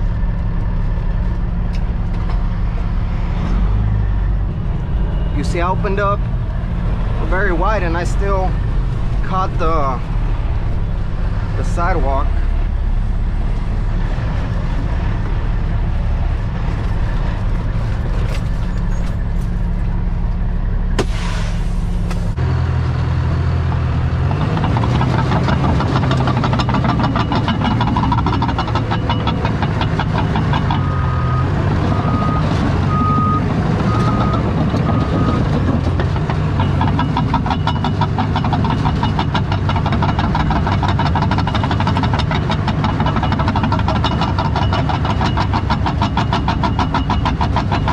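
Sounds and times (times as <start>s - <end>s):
bulldozer diesel engine clattering: 0.0s - 47.9s
truck diesel engine running: 0.0s - 47.9s.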